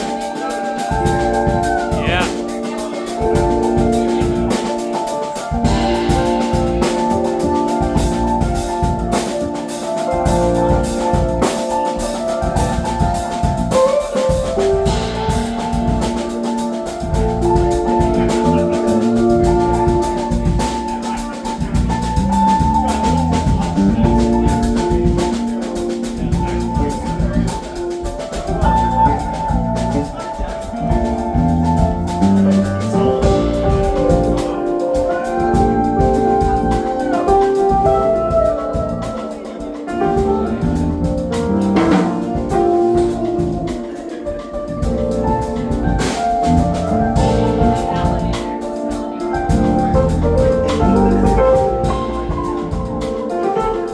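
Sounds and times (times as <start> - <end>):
drum kit beat: 0.0 - 53.9
funk band playing: 0.0 - 53.9.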